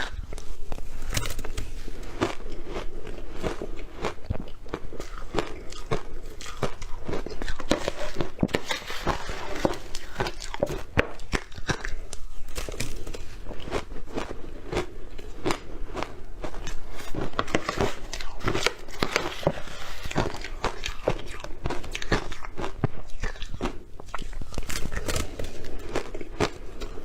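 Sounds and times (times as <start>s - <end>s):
person chewing something crunchy: 0.0s - 27.0s.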